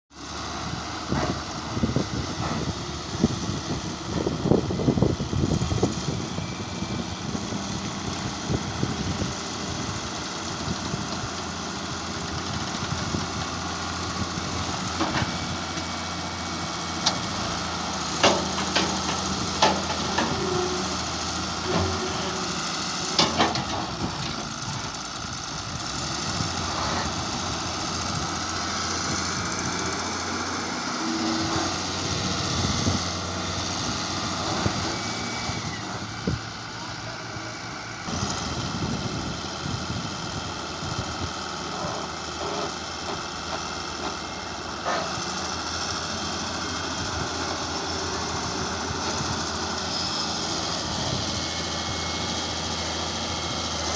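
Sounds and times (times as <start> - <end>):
heavy machinery engines running: 0.2 - 53.9.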